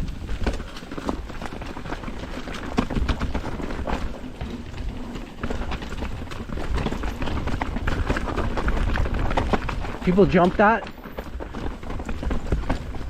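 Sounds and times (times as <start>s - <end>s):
bike clicking and rattling: 0.0s - 13.0s
tyres rumbling on rough trail: 0.0s - 13.0s
wind: 0.0s - 13.0s.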